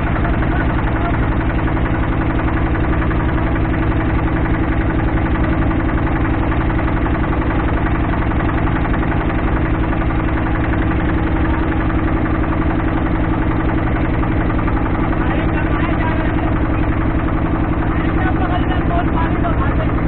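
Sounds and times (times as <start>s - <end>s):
motorboat engine pulsing: 0.0s - 20.0s.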